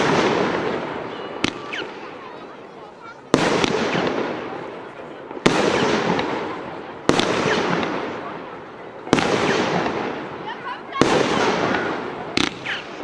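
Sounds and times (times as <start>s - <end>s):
firework bangs: 0.0s - 13.0s
firework crackling and hissing: 0.0s - 13.0s.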